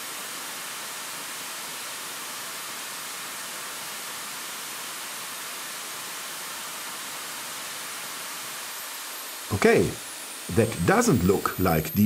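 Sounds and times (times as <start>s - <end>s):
jet turbine engine hissing: 0.0s - 12.0s.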